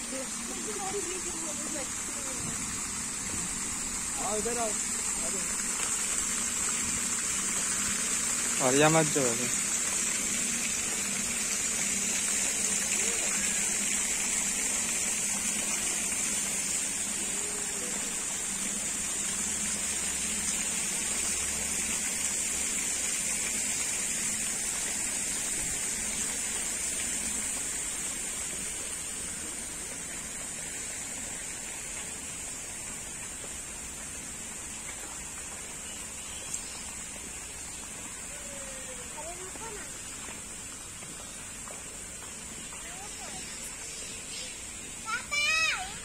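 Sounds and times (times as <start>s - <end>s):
fountain spray splashing: 0.0s - 46.0s.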